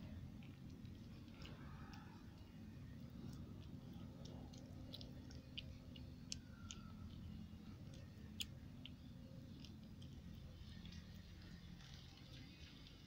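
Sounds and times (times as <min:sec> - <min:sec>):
kitten chewing and licking: 0:00.0 - 0:13.0
low background rumble: 0:00.0 - 0:13.0.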